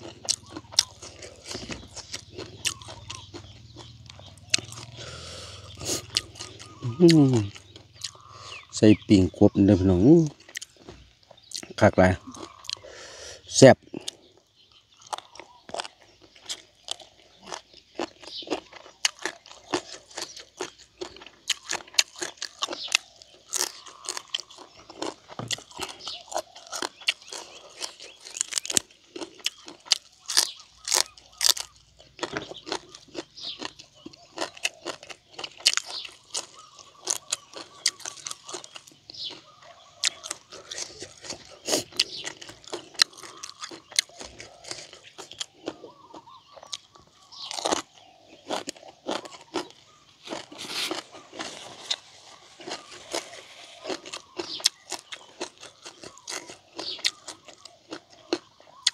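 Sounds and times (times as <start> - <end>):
man chewing crunchy greens: 0.0 - 58.9.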